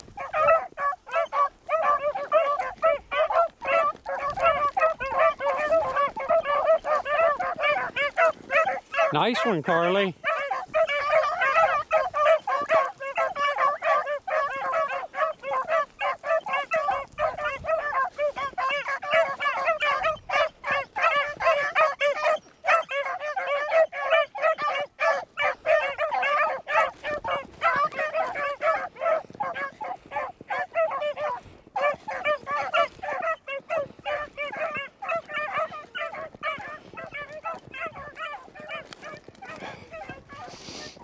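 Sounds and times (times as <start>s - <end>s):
beagles baying: 0.0s - 41.0s.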